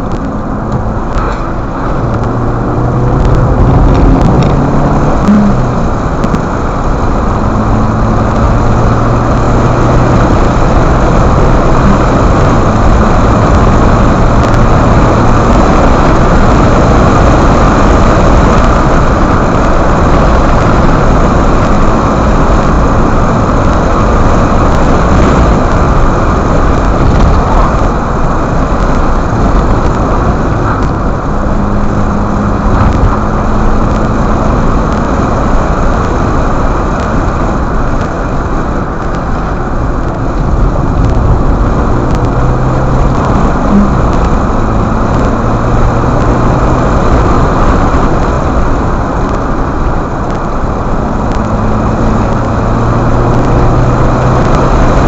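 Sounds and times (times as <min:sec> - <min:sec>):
road and engine noise: 0:00.0 - 0:55.0.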